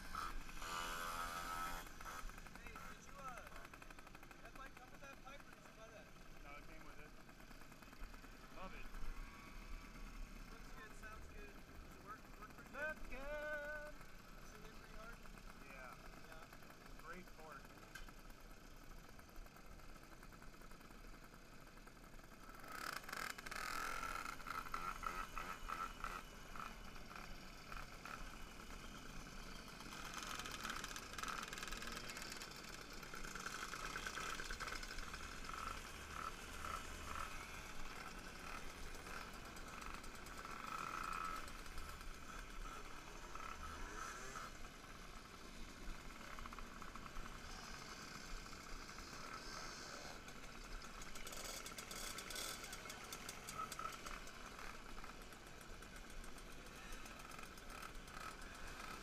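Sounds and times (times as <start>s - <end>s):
moped engines revving: 0.0s - 59.0s.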